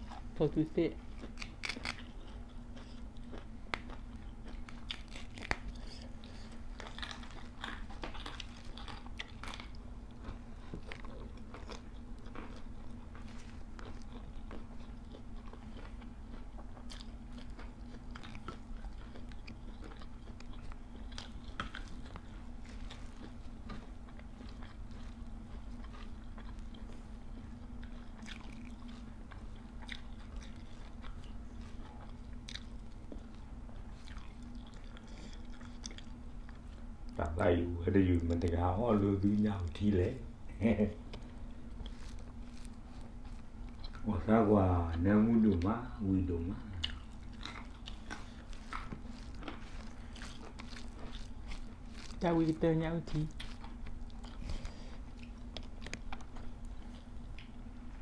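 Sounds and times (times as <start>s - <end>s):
chewing raw vegetables: 0.0s - 58.0s.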